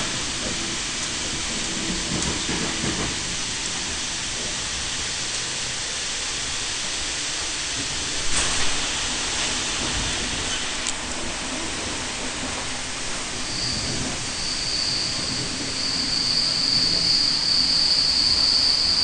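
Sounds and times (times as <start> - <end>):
train rushing noise: 0.0 - 19.0
train wheels rumbling on rails: 0.0 - 19.0.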